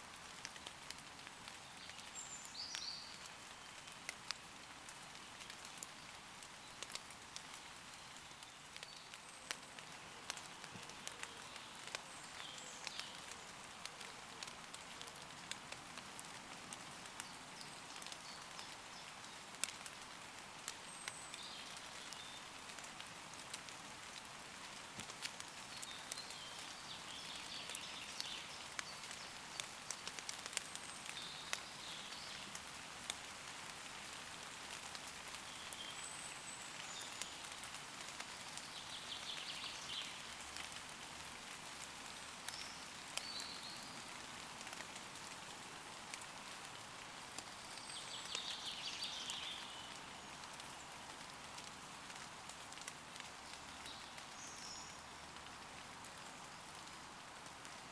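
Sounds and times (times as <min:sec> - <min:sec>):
light rain falling on leaves: 0:00.0 - 0:57.9.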